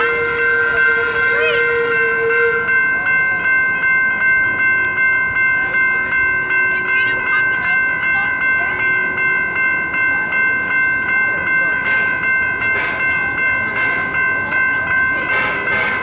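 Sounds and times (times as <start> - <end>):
railroad crossing bells ringing: 0.0 - 16.0.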